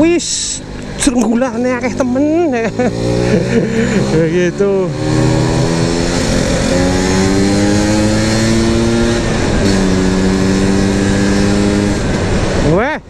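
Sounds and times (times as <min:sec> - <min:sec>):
scooter engine accelerating: 0:00.6 - 0:12.6.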